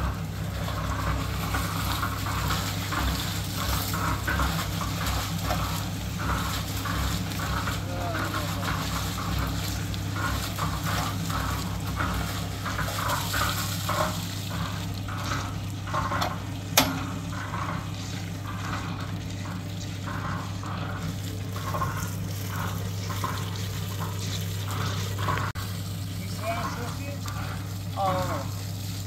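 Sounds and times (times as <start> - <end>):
concrete mixer motor hum: 0.0 - 29.0
mixer drum sloshing and scraping: 0.0 - 29.0.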